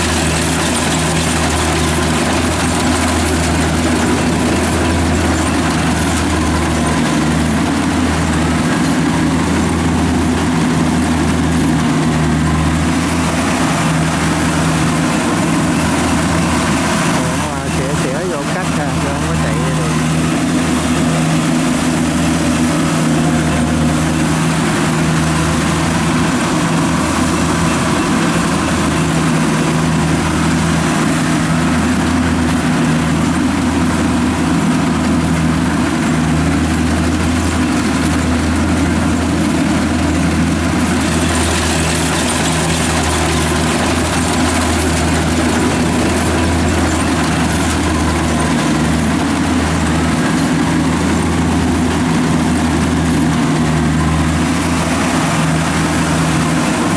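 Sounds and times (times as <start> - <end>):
combine harvester diesel engine: 0.0 - 56.9.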